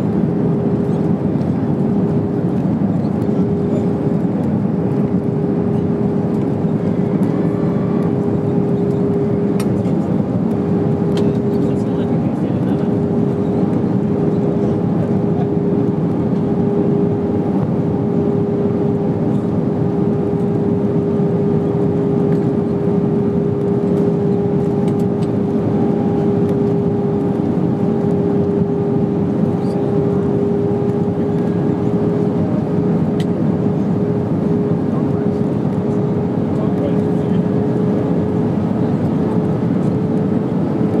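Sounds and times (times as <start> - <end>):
aircraft engines and airflow roar: 0.0 - 41.0
constant droning tone: 0.0 - 41.0.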